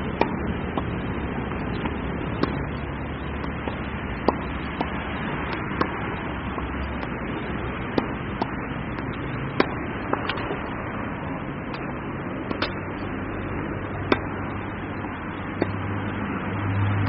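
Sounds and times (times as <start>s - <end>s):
tennis balls hit with racket: 0.0s - 16.3s
steady background hiss: 0.0s - 17.0s.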